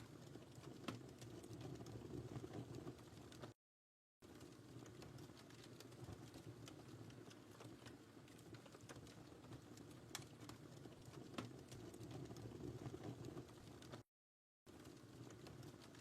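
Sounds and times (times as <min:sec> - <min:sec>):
wood fire crackling: 0:00.0 - 0:03.6, 0:04.2 - 0:14.1, 0:14.7 - 0:16.0.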